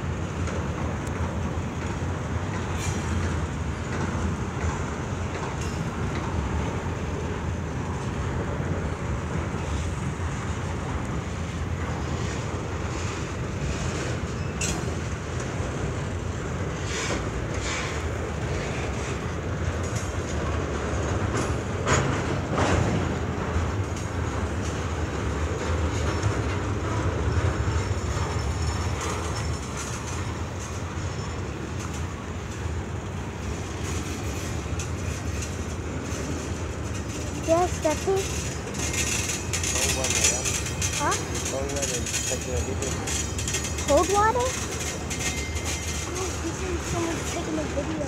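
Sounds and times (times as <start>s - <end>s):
freight train rumbling past: 0.0s - 48.0s
wheels clacking over rail joints: 0.0s - 48.0s.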